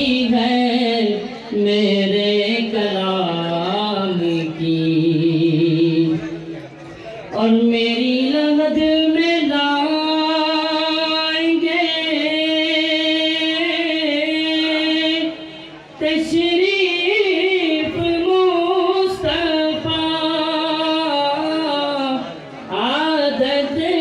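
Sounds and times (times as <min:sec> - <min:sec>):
man singing into a microphone: 0:00.0 - 0:06.6, 0:07.2 - 0:24.0.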